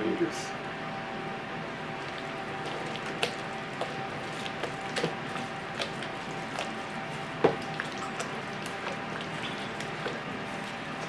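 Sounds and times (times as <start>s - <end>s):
salad being stirred in a bowl: 2.0s - 11.0s.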